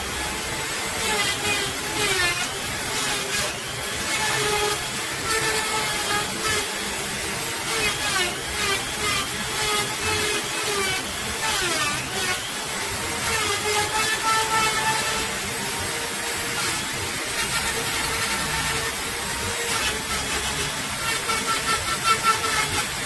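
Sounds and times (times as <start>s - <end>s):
electric rotary tool running: 0.0s - 23.0s.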